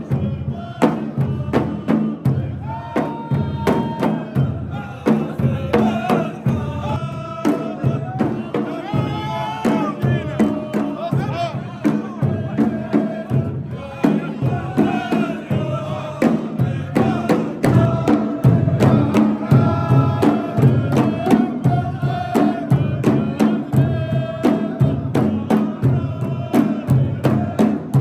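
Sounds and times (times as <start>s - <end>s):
drum beat: 0.0s - 28.0s.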